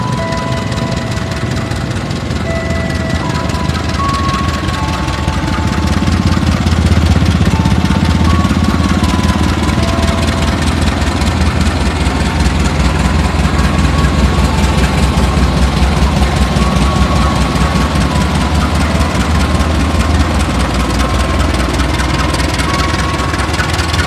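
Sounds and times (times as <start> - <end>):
locomotive engine low throb: 0.0 - 24.0.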